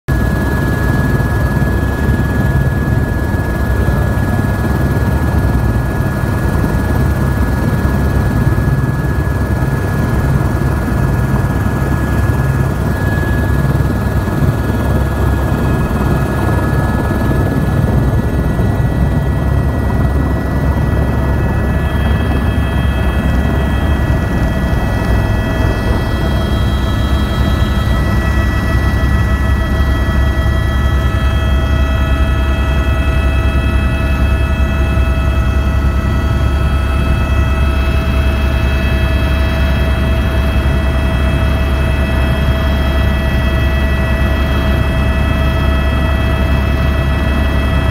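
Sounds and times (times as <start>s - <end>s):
helicopter rotor and turbine whine: 0.1s - 47.9s.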